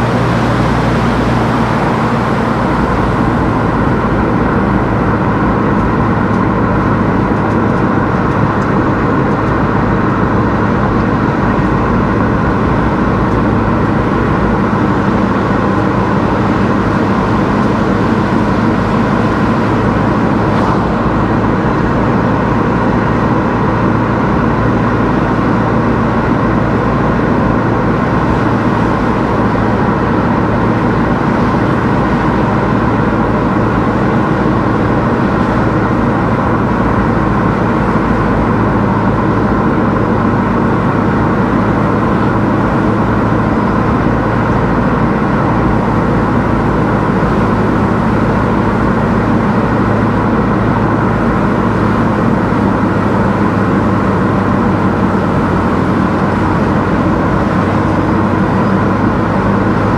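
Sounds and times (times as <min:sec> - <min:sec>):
car engine hum: 0:00.0 - 0:59.9
tyre and road noise: 0:00.0 - 0:59.9.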